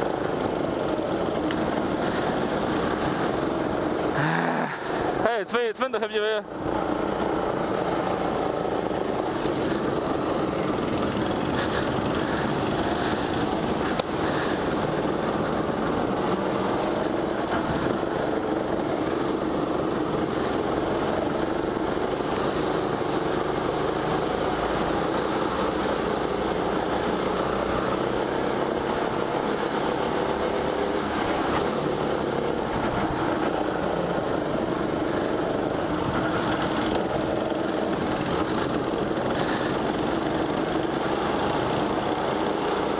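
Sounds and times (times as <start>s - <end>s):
go-kart engine running: 0.0s - 42.9s
rush of noise: 0.0s - 42.9s.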